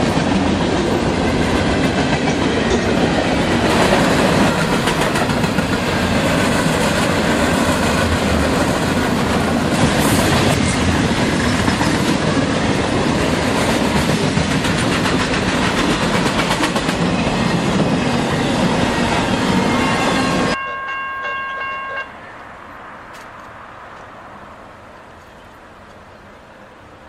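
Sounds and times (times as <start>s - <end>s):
steel wheels clacking on rail: 0.0s - 22.1s
freight train rumbling past: 0.0s - 27.0s.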